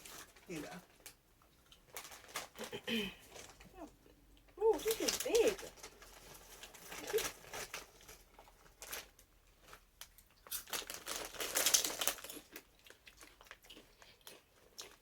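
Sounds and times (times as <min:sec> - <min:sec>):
chip bag crinkling: 0:00.0 - 0:15.0.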